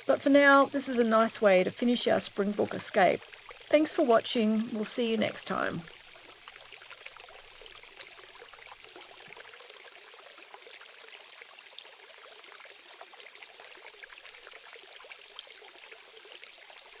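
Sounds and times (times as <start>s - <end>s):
stream trickling: 0.0s - 17.0s.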